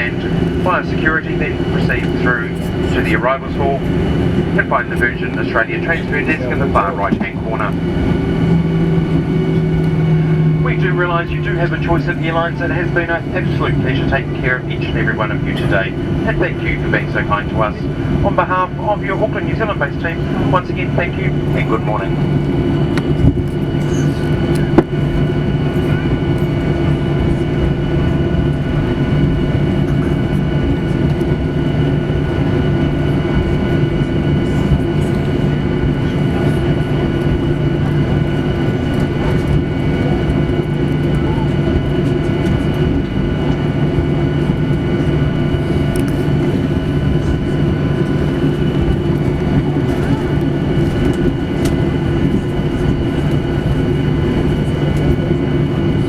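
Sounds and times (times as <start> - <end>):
cabin air system hum: 0.0 - 56.0
jet engines whining at idle: 0.0 - 56.0.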